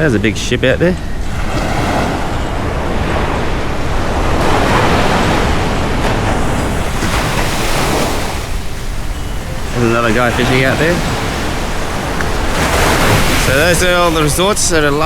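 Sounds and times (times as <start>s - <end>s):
wind rumble on microphone: 0.8s - 15.0s
surf washing onto beach: 1.2s - 15.0s.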